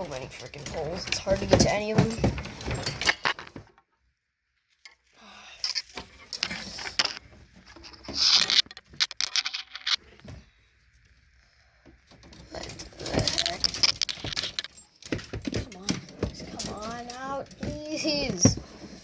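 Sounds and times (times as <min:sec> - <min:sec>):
fishing rods knocking and rustling: 0:00.0 - 0:03.9, 0:04.8 - 0:10.3, 0:11.9 - 0:19.0.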